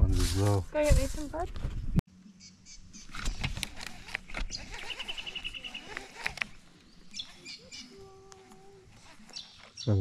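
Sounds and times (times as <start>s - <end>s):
birds chirping: 1.8s - 10.0s.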